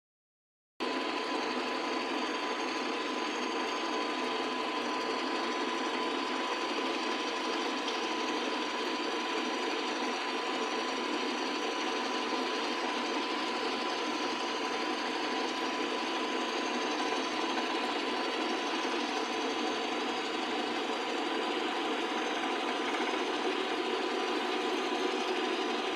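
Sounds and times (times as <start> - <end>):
small engine running with clatter: 0.9 - 25.9.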